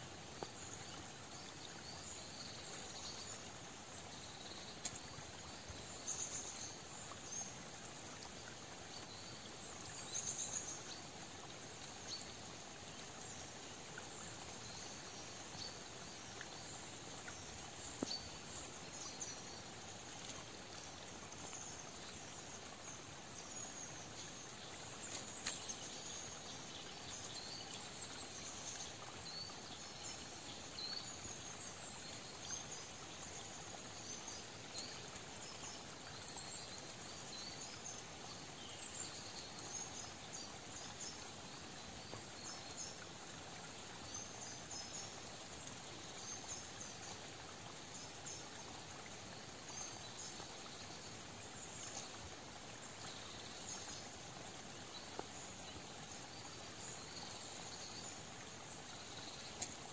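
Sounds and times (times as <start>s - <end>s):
forest brook trickling: 0.0s - 59.9s.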